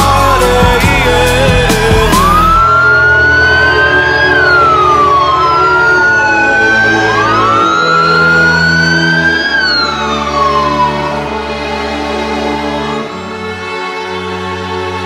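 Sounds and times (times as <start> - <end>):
police sirens wailing: 0.1 - 15.0.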